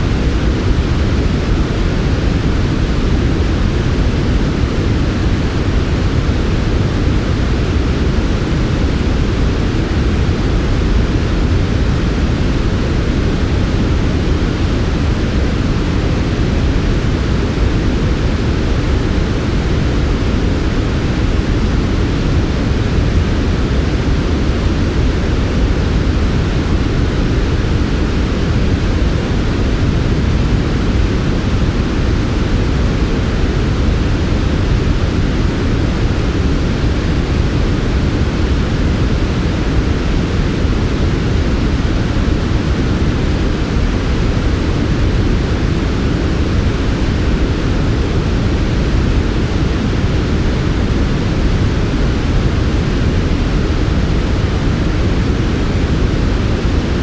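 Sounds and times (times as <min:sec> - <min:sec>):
deep synthetic noise hiss: 0:00.0 - 0:57.0.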